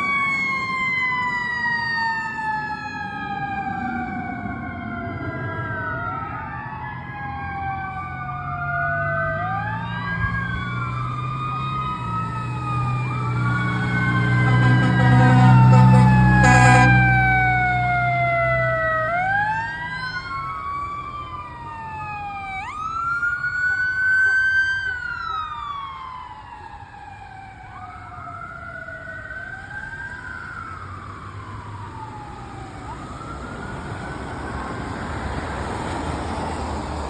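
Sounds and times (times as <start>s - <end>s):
fire truck sirens wailing: 0.0s - 37.0s
road traffic noise: 0.0s - 37.0s.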